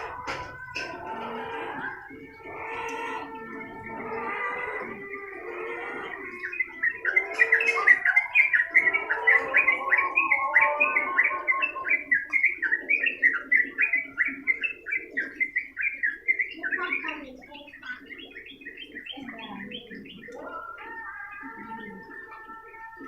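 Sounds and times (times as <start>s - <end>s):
bulbul chattering song: 0.0s - 23.0s
lower bird warbling: 0.0s - 23.0s.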